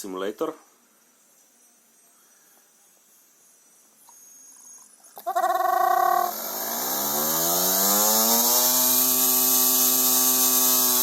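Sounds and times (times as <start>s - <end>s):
electric compressor motor whine: 1.0s - 11.0s.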